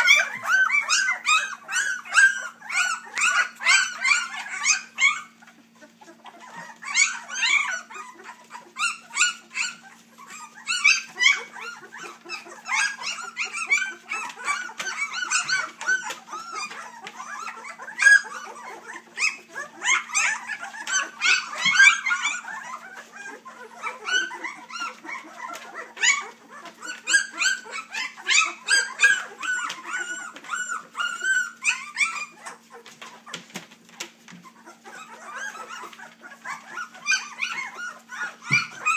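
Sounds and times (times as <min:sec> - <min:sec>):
puppies whining: 0:00.0 - 0:38.9.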